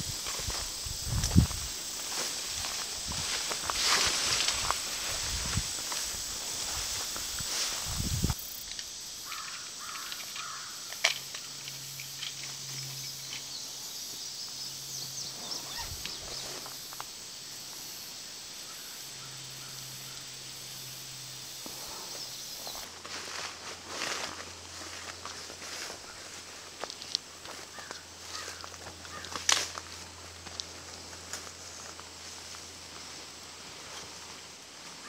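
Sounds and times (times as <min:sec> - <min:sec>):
rustles: 0:00.0 - 0:35.0
steady high hiss: 0:00.0 - 0:35.0.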